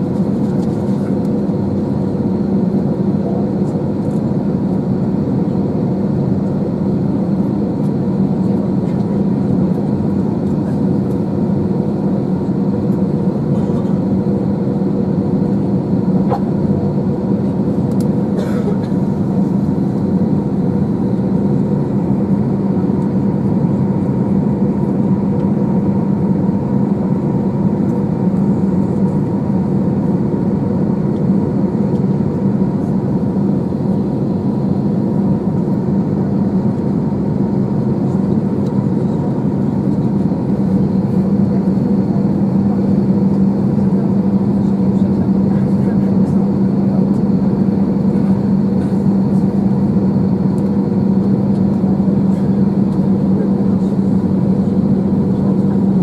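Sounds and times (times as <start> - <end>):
airplane cabin hum: 0.0 - 56.0.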